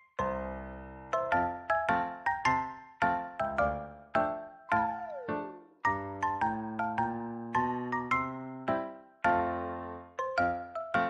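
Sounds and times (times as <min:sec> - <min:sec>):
bell-like keyboard music: 0:00.0 - 0:11.0.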